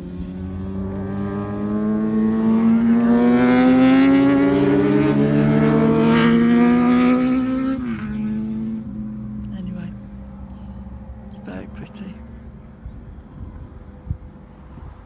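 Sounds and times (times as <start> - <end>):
motorbikes riding past: 0.0 - 15.0.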